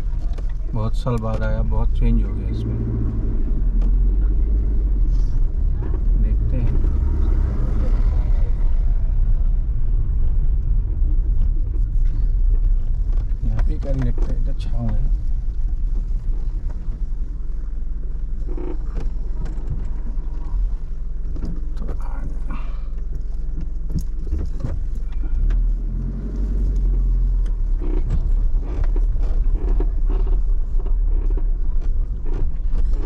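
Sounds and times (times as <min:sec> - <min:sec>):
camper van engine rumble: 0:00.0 - 0:33.0.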